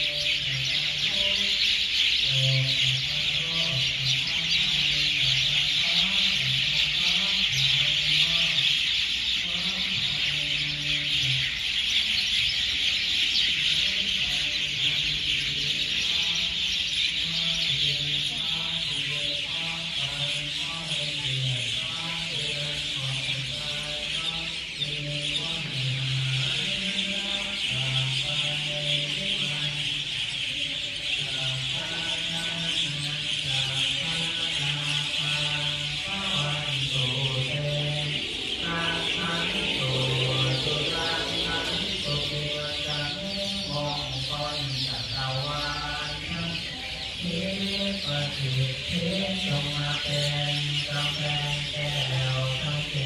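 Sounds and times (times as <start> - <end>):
chorus of birds chirping: 0.0 - 53.0
low monotone chanting: 0.0 - 53.0.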